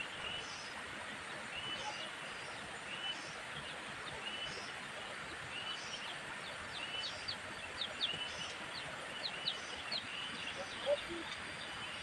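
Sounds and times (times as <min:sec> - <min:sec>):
birds chirping: 0:00.0 - 0:12.0
steady outdoor hiss: 0:00.0 - 0:12.0.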